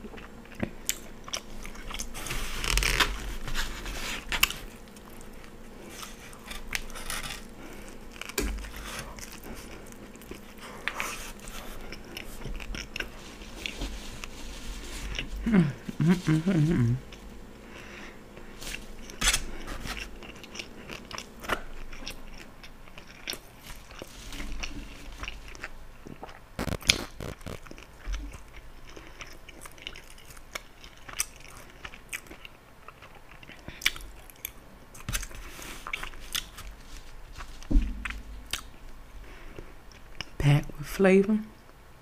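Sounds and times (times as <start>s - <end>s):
chewing and biting sandwich: 0.0s - 38.8s.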